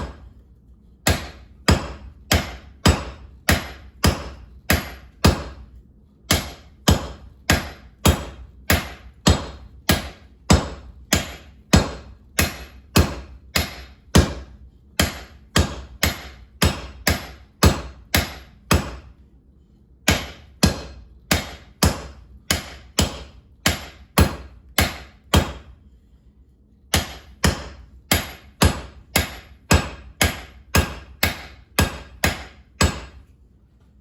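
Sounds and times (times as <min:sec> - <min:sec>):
hammer striking steel on anvil: 0:00.0 - 0:00.4, 0:01.0 - 0:19.2, 0:20.0 - 0:25.8, 0:26.9 - 0:33.4.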